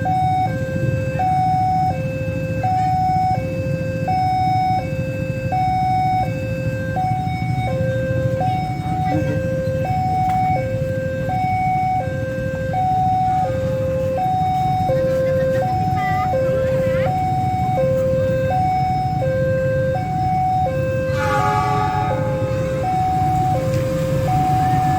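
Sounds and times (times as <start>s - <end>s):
two-tone crossing alarm: 0.0s - 24.9s.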